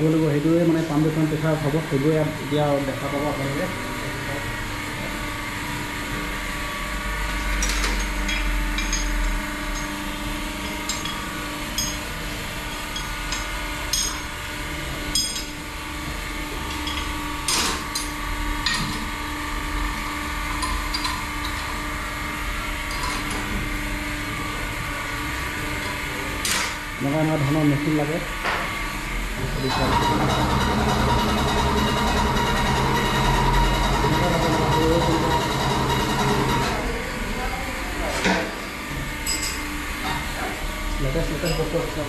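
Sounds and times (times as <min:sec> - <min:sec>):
workshop machinery humming: 0:00.0 - 0:42.0.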